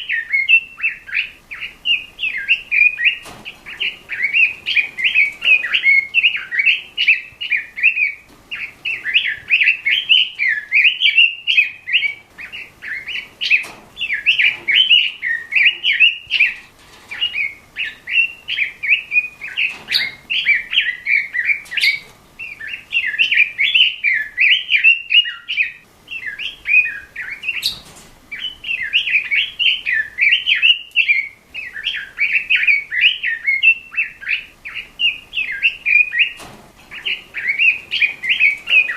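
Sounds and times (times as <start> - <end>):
bird warbling song: 0.0 - 38.9.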